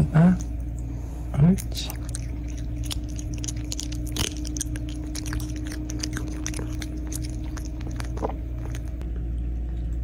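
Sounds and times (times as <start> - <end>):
low hum: 0.0 - 10.0
cat chewing: 0.3 - 9.0.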